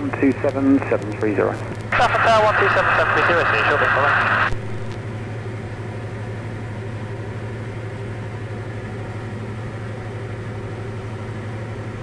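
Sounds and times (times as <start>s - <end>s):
aircraft engine and propeller droning: 0.0s - 12.0s.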